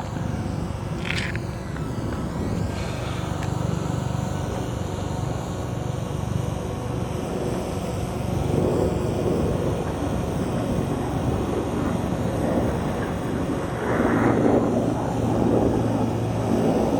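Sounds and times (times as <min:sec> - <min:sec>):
model airplane engine running: 0:00.0 - 0:16.9.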